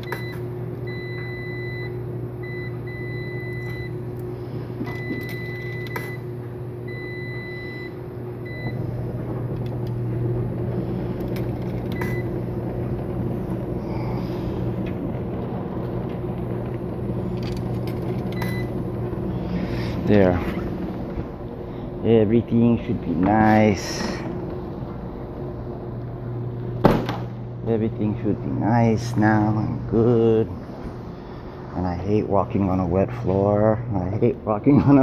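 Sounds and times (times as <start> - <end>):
laundry machines humming: 0.0 - 35.0.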